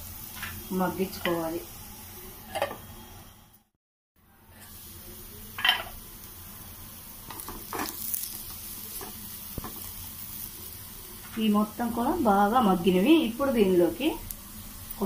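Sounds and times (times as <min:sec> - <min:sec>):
food sizzling in ghee: 0:00.0 - 0:15.0.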